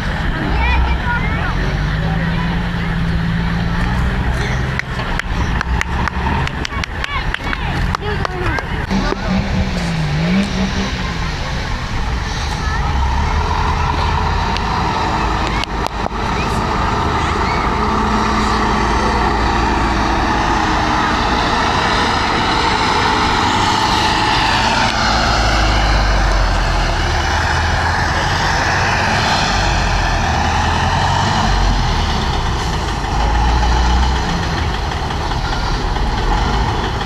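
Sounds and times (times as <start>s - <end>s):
diesel engine under load: 0.0s - 37.0s.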